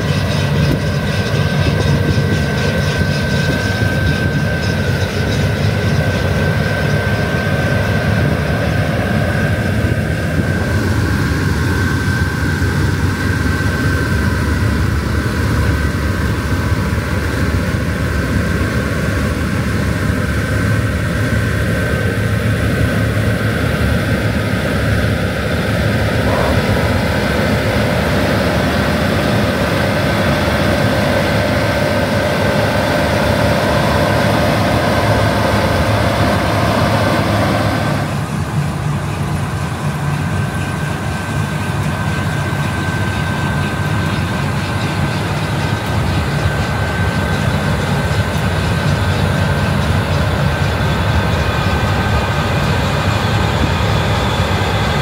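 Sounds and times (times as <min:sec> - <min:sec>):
combine harvester drone: 0:00.0 - 0:55.0
high machine whine: 0:00.0 - 0:55.0.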